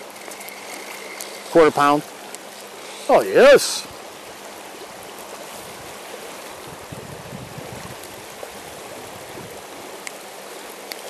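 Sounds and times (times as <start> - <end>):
shallow river rushing: 0.0 - 11.0.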